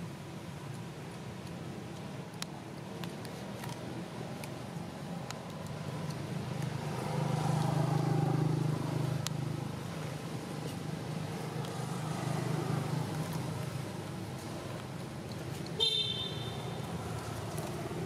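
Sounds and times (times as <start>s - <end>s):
vehicle engine humming: 2.5s - 18.0s.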